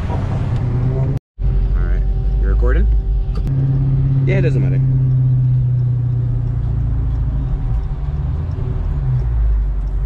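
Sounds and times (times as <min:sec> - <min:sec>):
car engine deep hum: 0:00.0 - 0:10.0.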